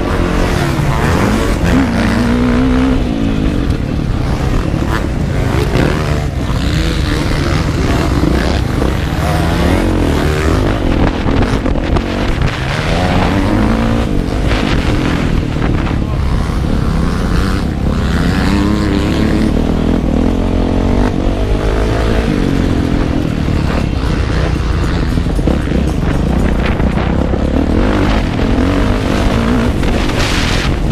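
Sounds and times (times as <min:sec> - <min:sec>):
motorbike engine revving: 0:00.0 - 0:30.9.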